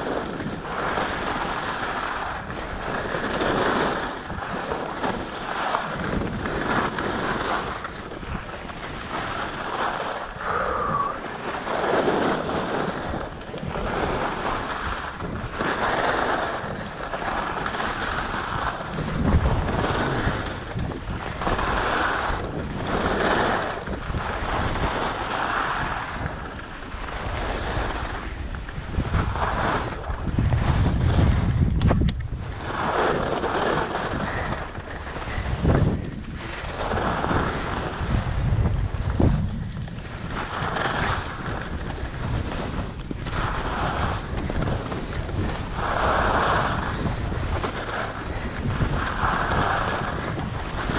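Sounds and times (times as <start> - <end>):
skis swishing on snow: 0.0 - 10.4, 11.0 - 31.5, 32.4 - 50.9
wind buffeting microphone: 0.0 - 50.9.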